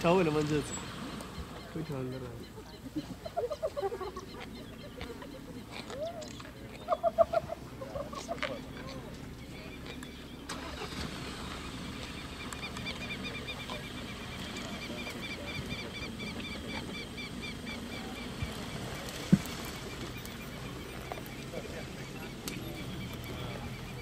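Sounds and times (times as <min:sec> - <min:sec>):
bird chirping rapidly: 0:00.0 - 0:24.0.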